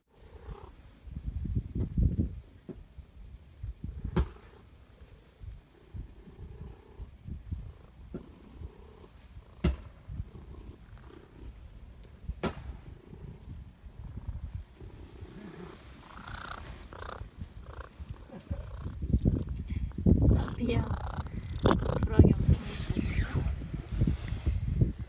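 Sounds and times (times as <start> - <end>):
cat purring: 0.1 - 0.9, 4.5 - 25.0.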